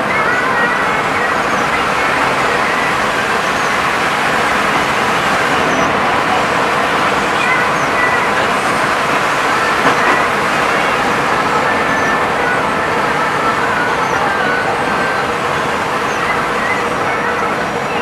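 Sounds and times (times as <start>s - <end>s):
bus engine: 0.0s - 18.0s
tyres on wet road: 0.0s - 18.0s.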